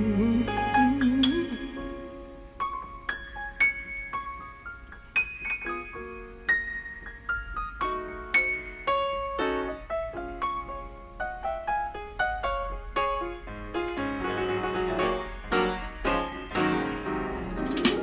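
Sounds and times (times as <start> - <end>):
piano melody over held chords: 0.0 - 18.0.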